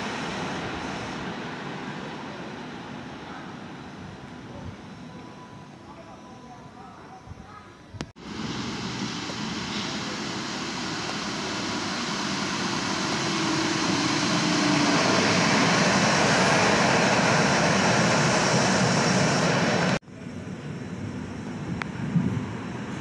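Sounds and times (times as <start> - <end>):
light-rail train rumbling: 0.0 - 7.6, 8.2 - 23.0.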